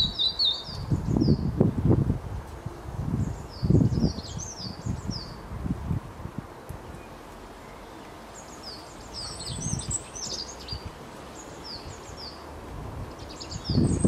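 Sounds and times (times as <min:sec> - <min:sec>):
small songbirds chirping: 0:00.0 - 0:06.0, 0:06.6 - 0:14.0
steady outdoor hiss: 0:00.0 - 0:14.0.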